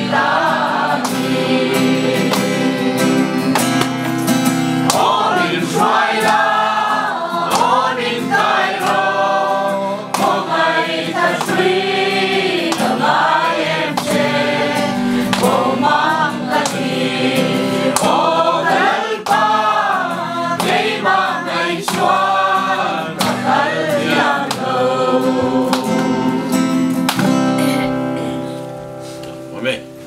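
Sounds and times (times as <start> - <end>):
group singing a hymn: 0.0 - 27.6
strummed acoustic guitar: 0.0 - 30.0.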